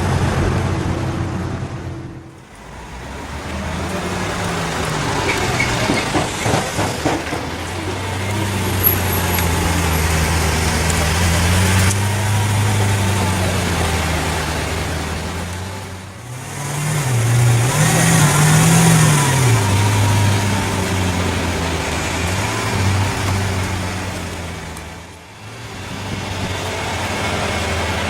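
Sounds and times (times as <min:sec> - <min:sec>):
car engine running: 0:00.0 - 0:28.0
sharp exhaust pops: 0:02.3 - 0:28.0.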